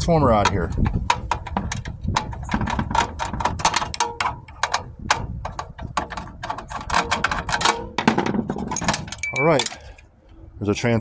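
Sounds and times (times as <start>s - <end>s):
hand tools clanking on sheet metal: 0.0s - 9.9s.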